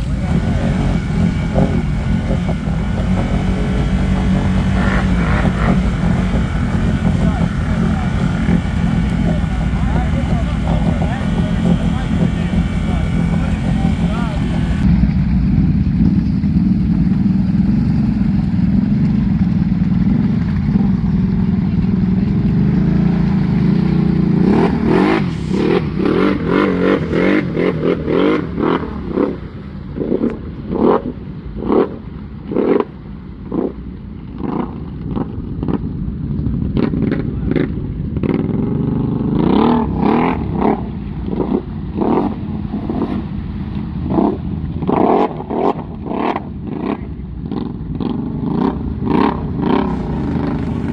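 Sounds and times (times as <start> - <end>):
atv engine revving: 0.0 - 14.9, 16.6 - 35.8, 36.7 - 50.9
engine clatter: 0.0 - 50.9.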